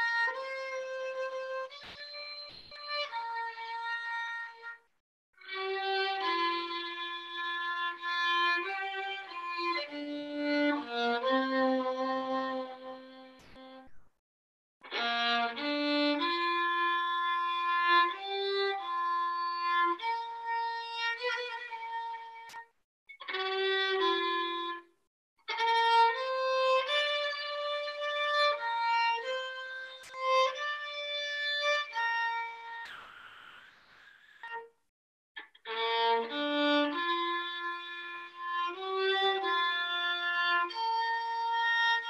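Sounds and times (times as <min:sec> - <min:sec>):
solo violin slow melody: 0:00.0 - 0:13.9, 0:14.8 - 0:34.8, 0:35.4 - 0:42.0.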